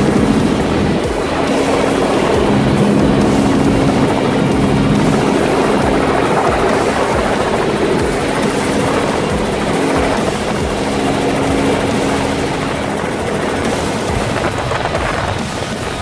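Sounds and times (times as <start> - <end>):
helicopter rotor and engine drone: 0.0 - 16.0.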